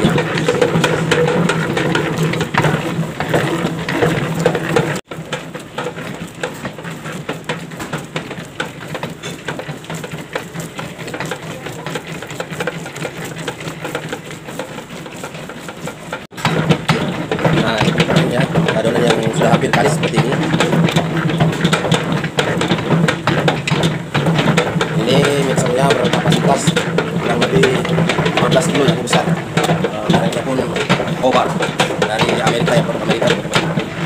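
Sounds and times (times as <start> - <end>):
dough mixer kneading: 0.0 - 34.0.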